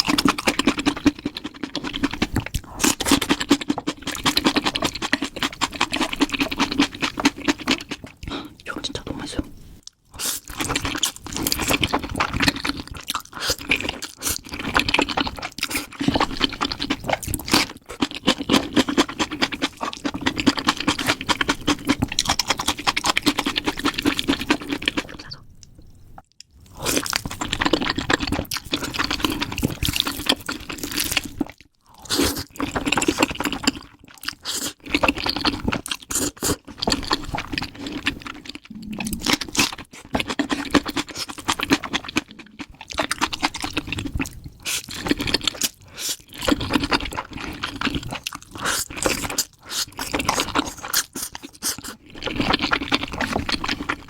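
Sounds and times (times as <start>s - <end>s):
crunching and chewing: 0.0s - 8.5s, 9.8s - 54.0s.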